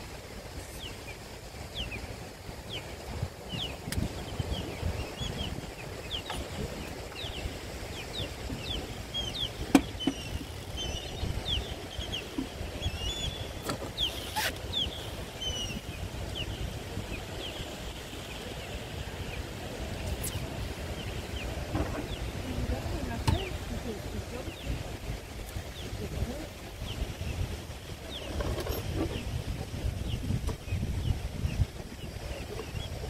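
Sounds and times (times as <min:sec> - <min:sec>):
small birds chirping: 0:00.6 - 0:33.0.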